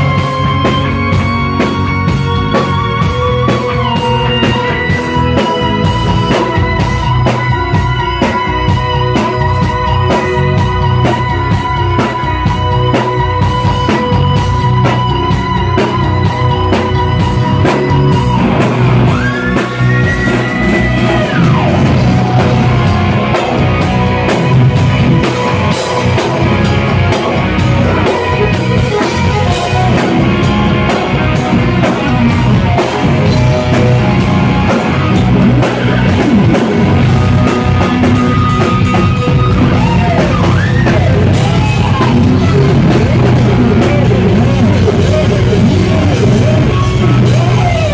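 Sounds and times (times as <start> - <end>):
drum kit: 0.0 - 47.9
electric guitar lead: 0.0 - 47.9.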